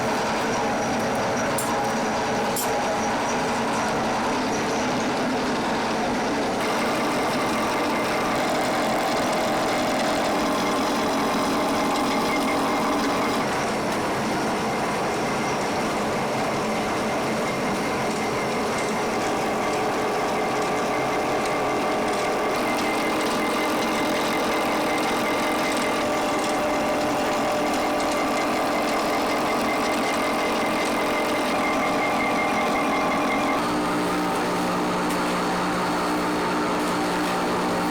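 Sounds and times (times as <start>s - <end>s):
industrial machinery hissing and humming: 0.0s - 37.9s.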